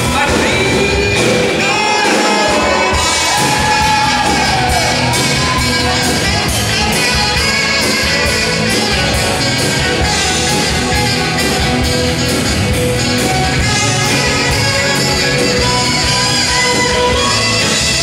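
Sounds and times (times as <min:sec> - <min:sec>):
drums with steady beat: 0:00.0 - 0:18.0
electric guitar: 0:00.0 - 0:18.0
saxophone lead: 0:00.0 - 0:18.0.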